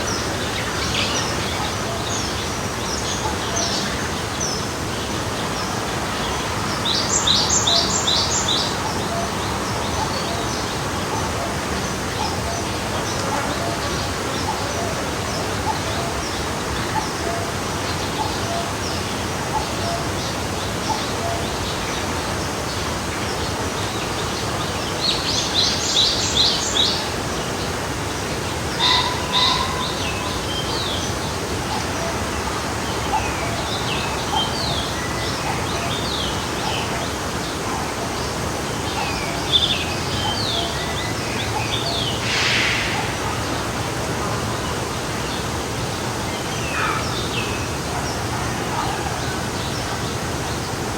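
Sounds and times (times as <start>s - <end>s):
songbirds chirping: 0.0s - 50.9s
stream flowing: 0.0s - 50.9s.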